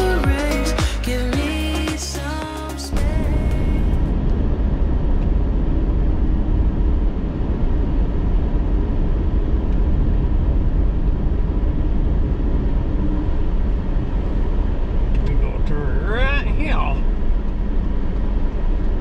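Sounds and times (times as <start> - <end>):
tyre and engine rumble: 0.0 - 19.0
air conditioner blowing: 3.0 - 19.0.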